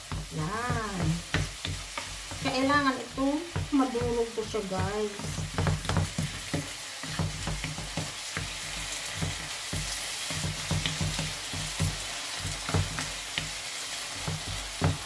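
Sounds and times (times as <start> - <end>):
spatula scraping and tapping pan: 0.0 - 15.0
vegetables sizzling in frying pan: 0.0 - 15.0.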